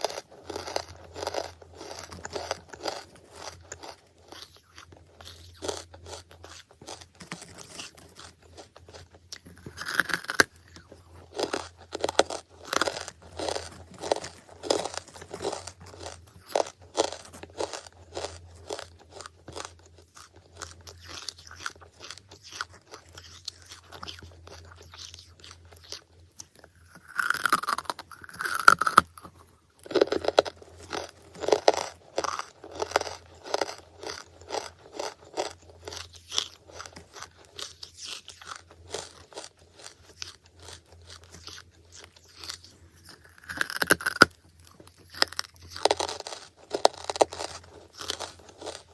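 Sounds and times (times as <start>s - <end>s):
crunching and chewing: 0.0s - 48.9s.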